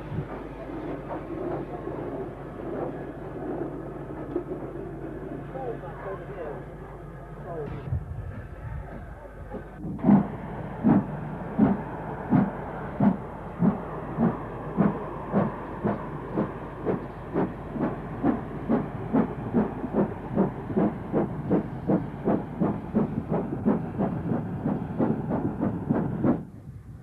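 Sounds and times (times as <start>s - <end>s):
steam locomotive exhaust beats: 0.0s - 27.0s.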